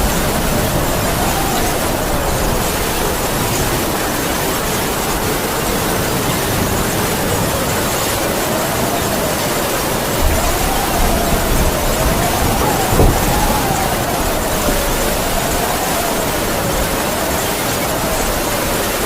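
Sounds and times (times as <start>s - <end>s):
heavy rain hissing: 0.0s - 19.0s
howling wind: 0.0s - 19.0s.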